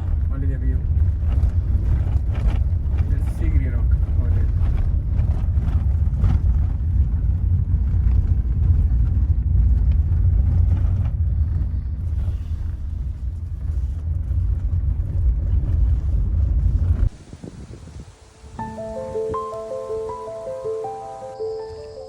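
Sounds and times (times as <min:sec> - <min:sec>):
low steady rumbling: 0:00.0 - 0:21.6.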